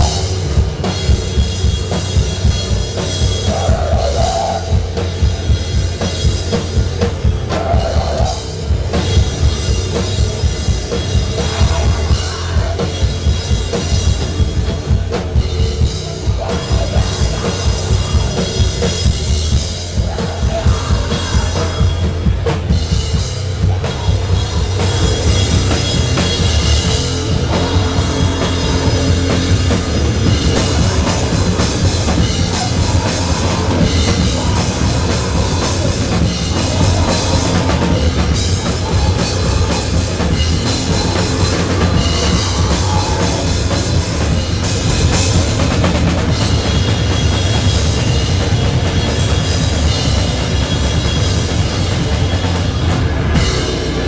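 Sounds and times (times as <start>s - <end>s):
drum kit beat: 0.0s - 54.0s
electric guitar: 0.0s - 54.0s
live rock band: 0.0s - 54.0s.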